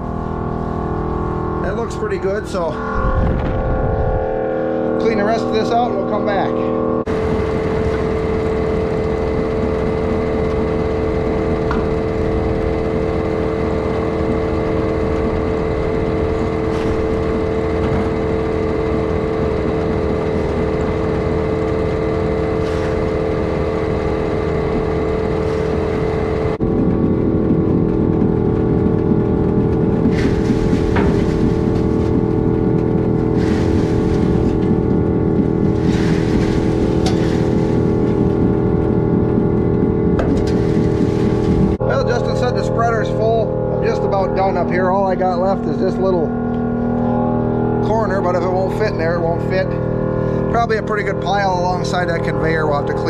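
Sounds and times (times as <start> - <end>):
blower and conveyor humming: 0.0 - 53.0.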